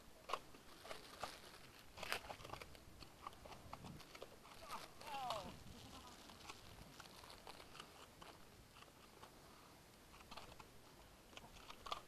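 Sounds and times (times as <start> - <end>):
faint small clicks and rustles: 0.2 - 12.0.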